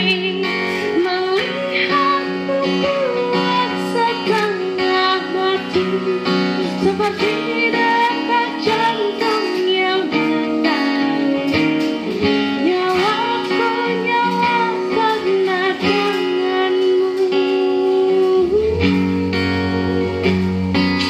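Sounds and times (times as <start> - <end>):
acoustic guitar plucked and strummed: 0.0 - 21.0
held wavering melody line: 0.0 - 21.0.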